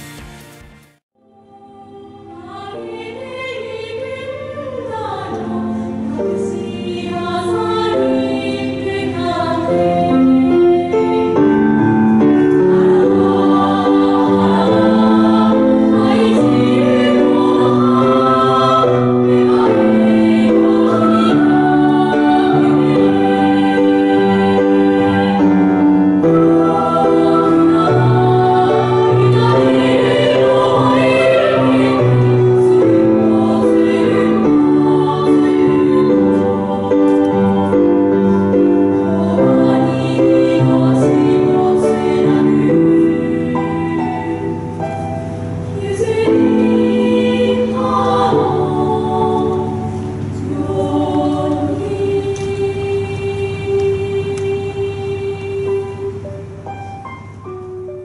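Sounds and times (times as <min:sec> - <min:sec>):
choir singing slow song: 0:00.0 - 0:58.0.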